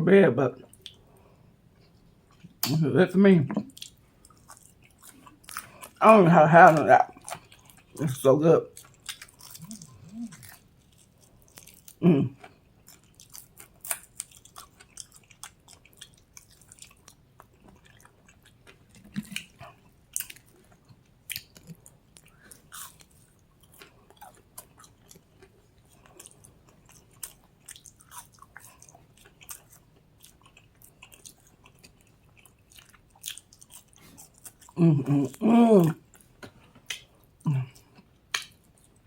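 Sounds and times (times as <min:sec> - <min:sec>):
person chewing food: 0:00.6 - 0:02.7, 0:03.6 - 0:06.0, 0:06.7 - 0:08.0, 0:08.6 - 0:39.0.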